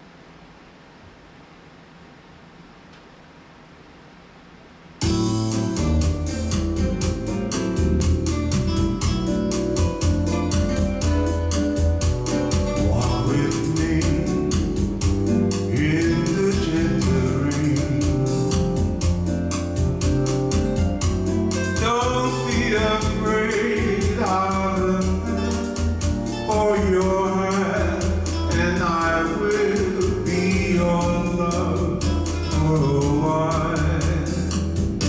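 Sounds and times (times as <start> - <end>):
keyboard bass line: 5.0 - 35.0
organ-like chords: 5.0 - 35.0
percussion rhythm: 5.0 - 35.0.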